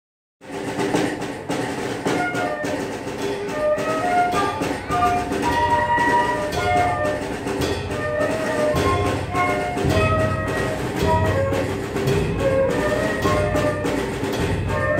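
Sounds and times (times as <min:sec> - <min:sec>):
drums steady beat: 0:00.4 - 0:14.9
flutes and woodwinds melody: 0:02.0 - 0:14.9.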